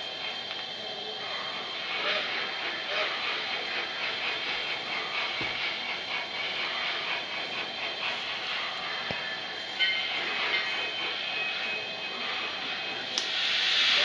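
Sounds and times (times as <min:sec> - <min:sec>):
steam hiss: 0:00.0 - 0:14.0.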